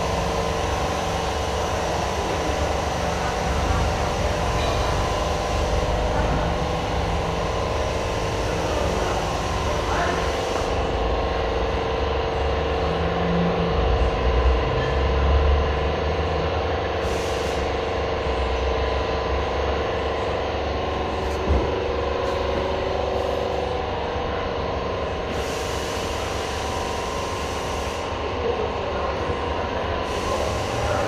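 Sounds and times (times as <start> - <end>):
machine hum with held tones: 0.0 - 31.0.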